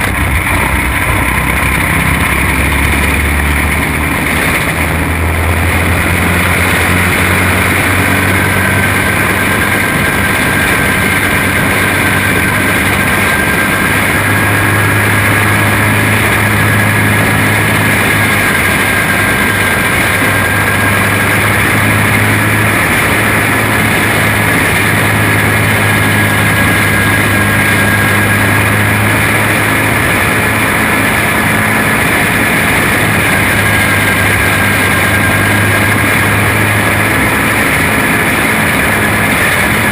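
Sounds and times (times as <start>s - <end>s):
kart engine running hard: 0.0s - 39.9s
wind and road noise: 0.0s - 39.9s.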